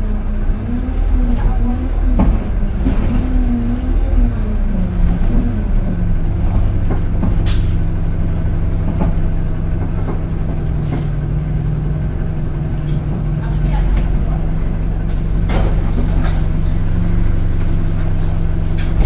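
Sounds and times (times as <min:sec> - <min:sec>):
bus engine idling: 0:00.0 - 0:19.0.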